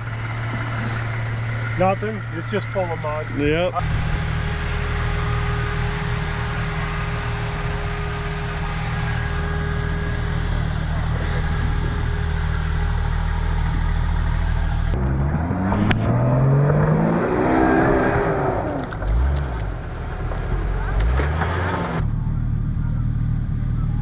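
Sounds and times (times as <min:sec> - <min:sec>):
engine revving up: 0:00.0 - 0:22.4
vehicle engine running low speed: 0:00.0 - 0:24.0.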